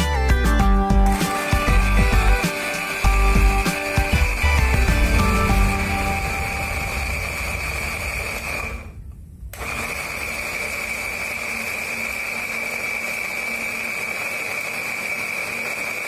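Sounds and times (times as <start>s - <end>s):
blender motor whine: 0.4s - 16.0s.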